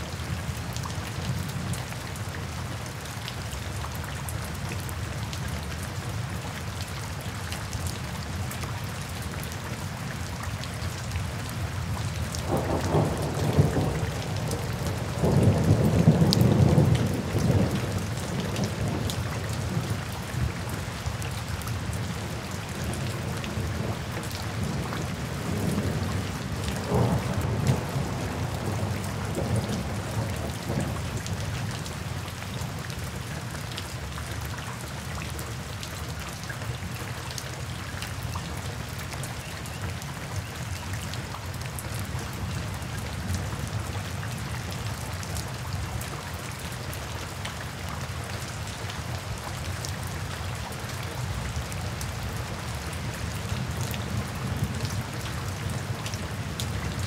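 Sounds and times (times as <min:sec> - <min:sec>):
rain falling through foliage: 0:00.0 - 0:57.0.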